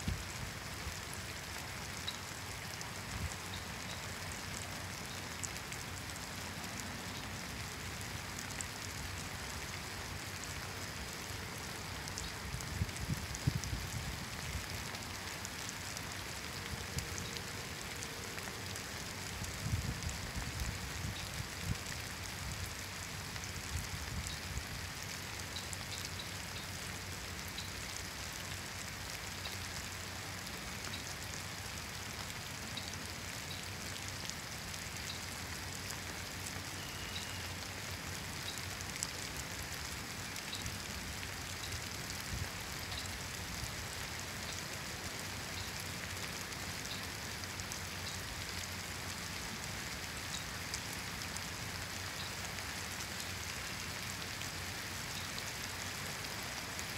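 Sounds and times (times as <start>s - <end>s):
drops ticking on leaves: 0.0s - 56.9s
rain falling on foliage: 0.0s - 56.9s.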